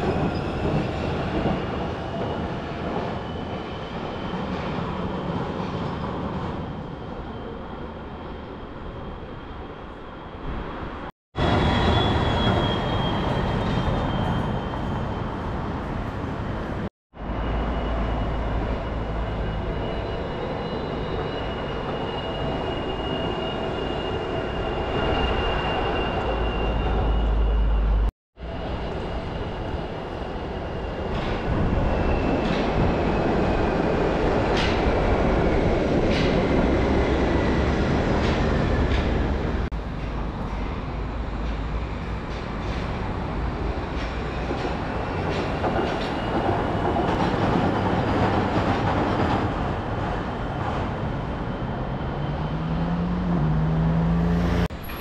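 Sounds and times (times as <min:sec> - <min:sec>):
suspension railway train rumble: 0:00.0 - 0:55.0.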